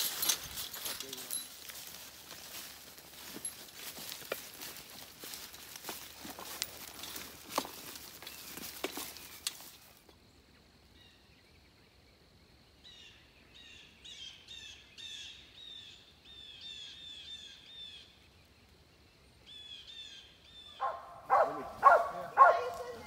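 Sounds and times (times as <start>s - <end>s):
songbird singing faintly: 0.0s - 23.0s.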